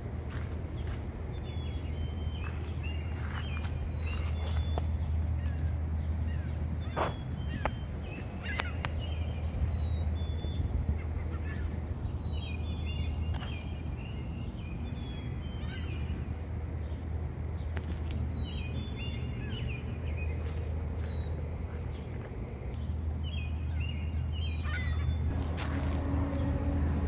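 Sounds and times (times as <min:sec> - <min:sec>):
small birds chirping: 0:00.0 - 0:25.5
steady low rumble: 0:00.0 - 0:27.0.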